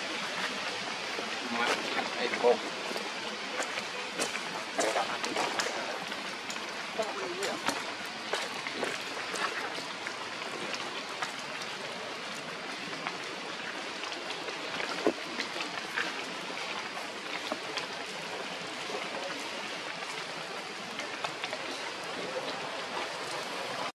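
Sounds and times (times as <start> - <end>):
small crackles and ticks: 0.1 - 23.9.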